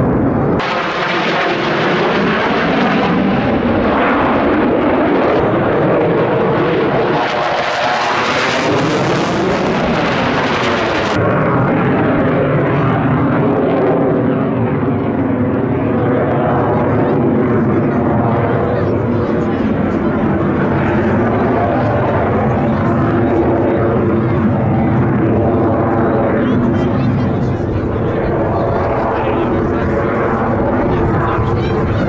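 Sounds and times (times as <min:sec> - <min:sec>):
fighter jet flying overhead: 0:00.0 - 0:32.0.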